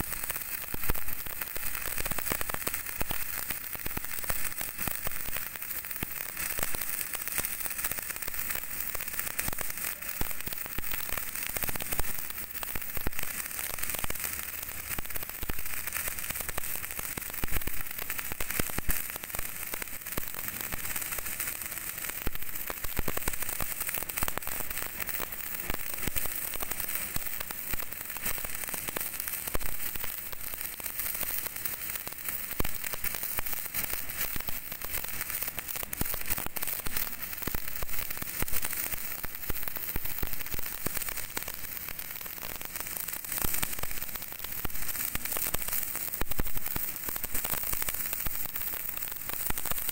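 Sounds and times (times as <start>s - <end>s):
welding arc crackling: 0.0s - 49.9s.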